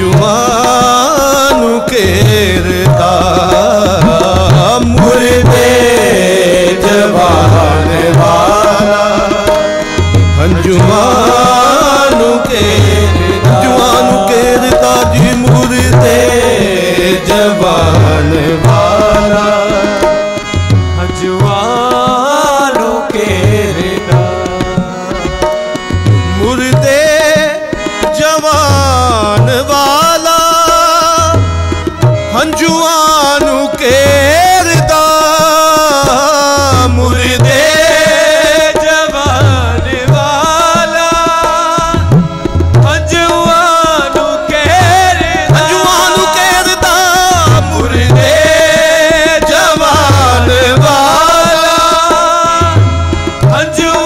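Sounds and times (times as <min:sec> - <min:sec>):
lead voice singing: 0:00.0 - 0:31.5, 0:32.3 - 0:54.0
harmonium: 0:00.0 - 0:54.0
tabla rhythm: 0:00.0 - 0:54.0.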